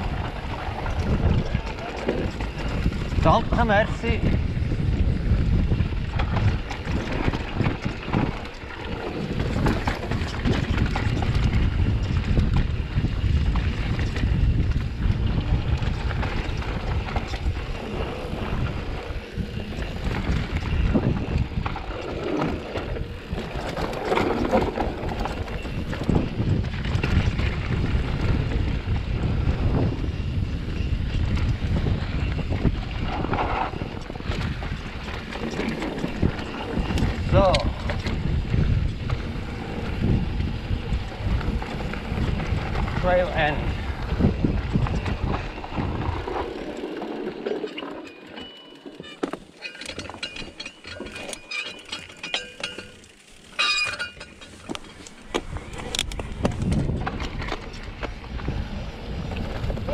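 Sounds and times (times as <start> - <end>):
wind buffeting microphone: 0.0 - 47.8, 49.8 - 59.9
bike clicks and rattles: 0.0 - 59.9
tyres rumbling over rough trail: 0.0 - 59.9.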